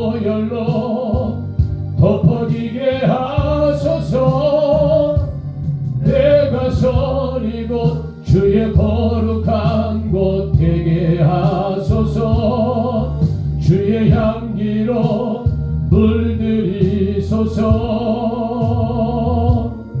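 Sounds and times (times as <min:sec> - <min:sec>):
instrumental backing with bass: 0:00.0 - 0:20.0
worship song singing: 0:00.0 - 0:20.0.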